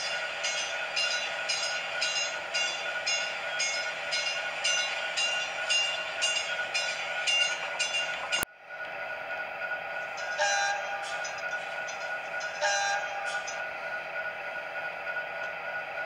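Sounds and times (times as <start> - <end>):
model train electric hum: 0.0 - 16.0.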